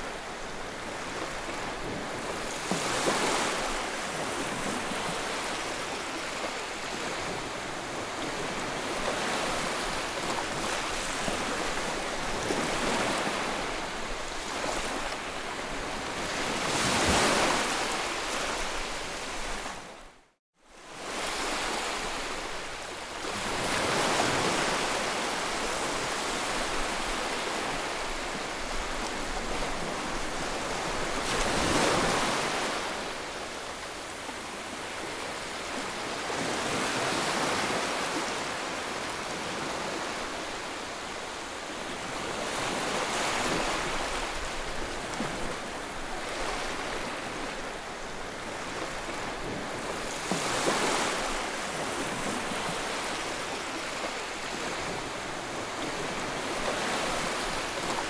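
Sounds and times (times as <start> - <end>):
ocean waves washing ashore: 0.0 - 20.2, 20.8 - 58.0.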